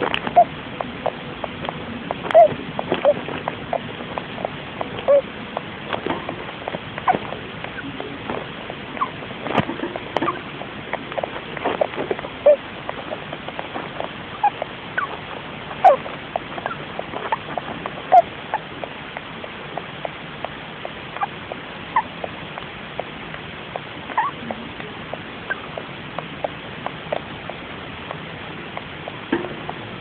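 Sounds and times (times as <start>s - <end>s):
hamster chirps: 0.0s - 29.8s
hamster squeaking and clicking: 0.0s - 29.9s.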